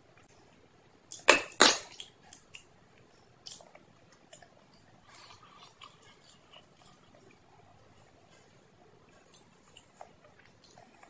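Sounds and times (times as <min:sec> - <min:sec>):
chewing with small crackles: 0:01.9 - 0:11.0.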